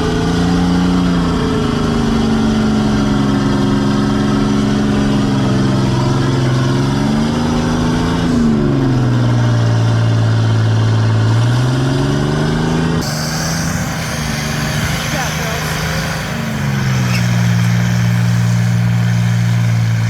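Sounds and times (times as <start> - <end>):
vehicle engine revving under load: 0.0 - 20.0.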